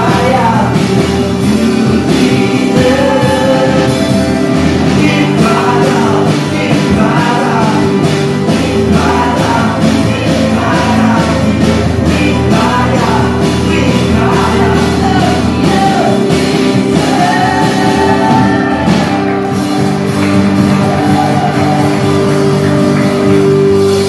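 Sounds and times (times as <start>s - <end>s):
loud rock band music with singing: 0.0s - 24.0s.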